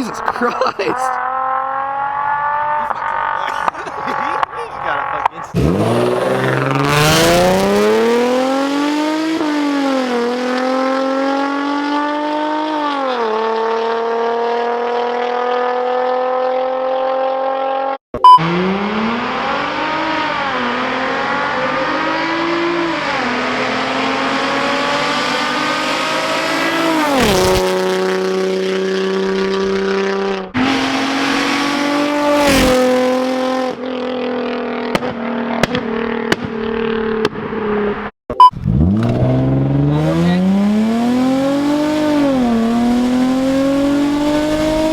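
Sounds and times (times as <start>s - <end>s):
car exhaust accelerating through gears: 0.0s - 44.9s.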